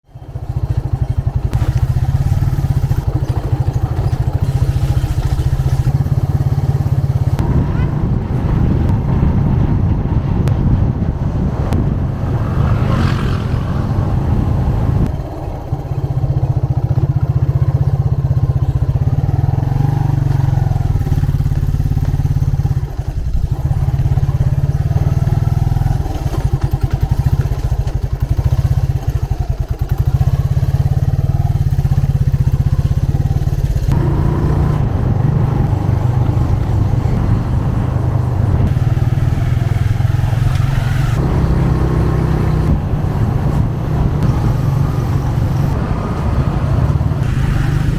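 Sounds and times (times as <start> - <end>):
motorcycle engine droning: 0.1 - 47.9.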